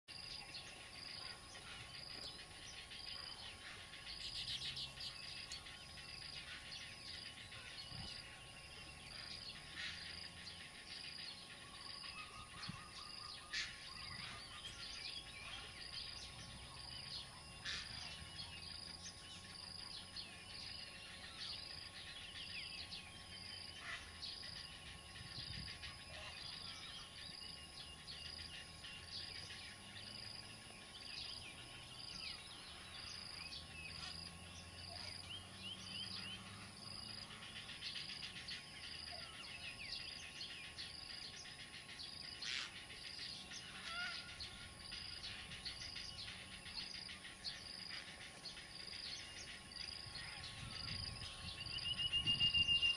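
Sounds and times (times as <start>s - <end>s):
birds chirping and chattering: 0.1s - 52.9s
insects whining: 0.1s - 52.9s.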